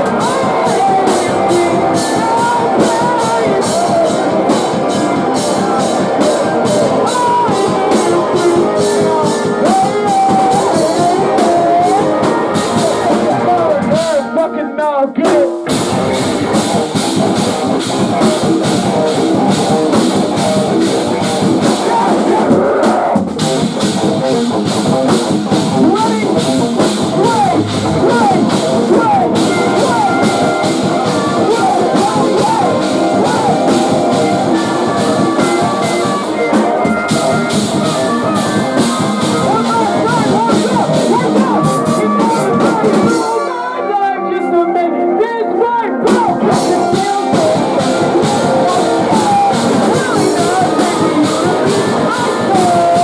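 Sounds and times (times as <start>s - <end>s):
fast heavy drum kit: 0.0s - 14.4s, 15.2s - 43.6s, 46.0s - 53.0s
distorted electric guitars: 0.0s - 53.0s.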